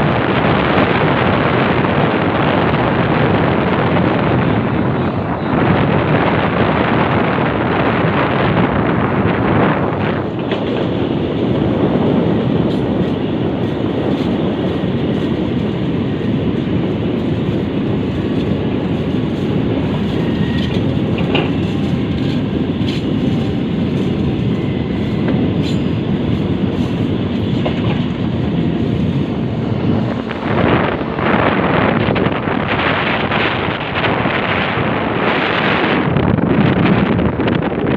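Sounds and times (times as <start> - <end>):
rail machine rumbling: 0.0 - 37.9.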